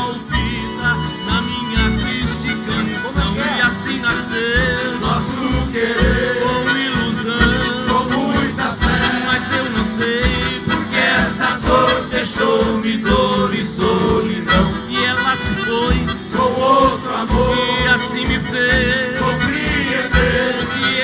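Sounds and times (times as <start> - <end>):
country music ensemble: 0.0 - 21.0.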